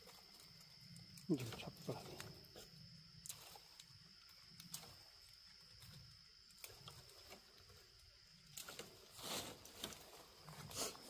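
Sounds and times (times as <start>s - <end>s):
rustling leaves and twig clicks: 0.0s - 11.0s.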